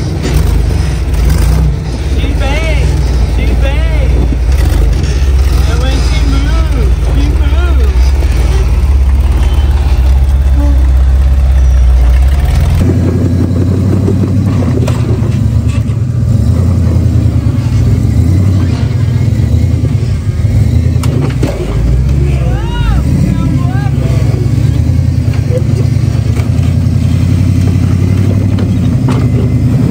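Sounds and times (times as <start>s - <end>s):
buggy engine idling: 0.0s - 29.9s
engine revving under load: 0.0s - 29.9s.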